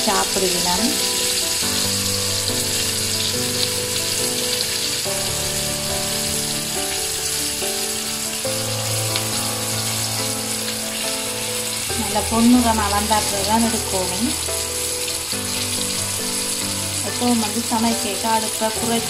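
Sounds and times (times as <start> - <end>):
background music of held chords: 0.0 - 19.0
chicken deep-frying in oil: 0.0 - 19.0.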